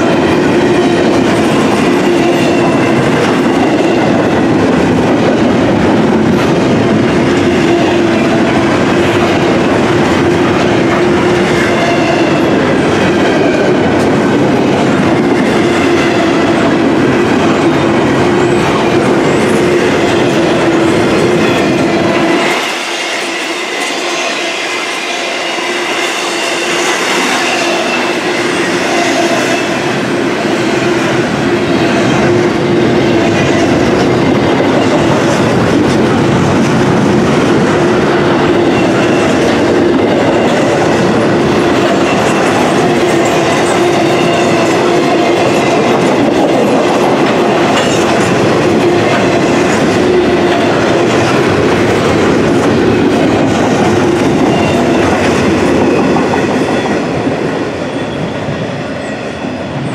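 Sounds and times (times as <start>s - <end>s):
clickety-clack over rail joints: 0.0s - 59.9s
freight train wheels rumbling on rail: 0.0s - 59.9s.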